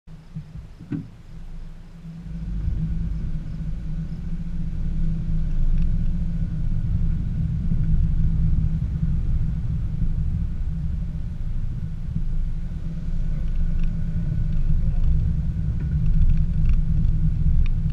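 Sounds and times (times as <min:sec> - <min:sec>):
car engine and tyres rumbling: 0:00.1 - 0:17.9.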